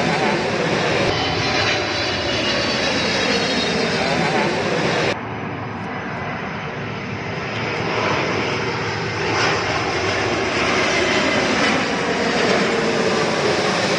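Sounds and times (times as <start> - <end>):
airplane engine rush: 0.0 - 13.9.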